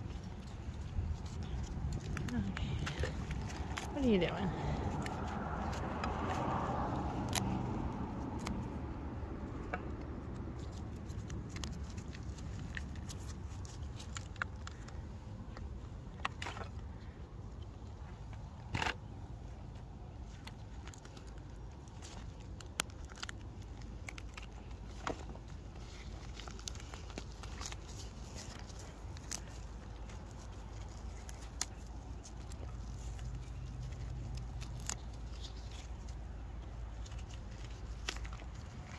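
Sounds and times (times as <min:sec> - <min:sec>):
chalk crunching and cracking: 0:00.0 - 0:17.2, 0:17.8 - 0:38.9
steady low rumble: 0:00.0 - 0:38.9.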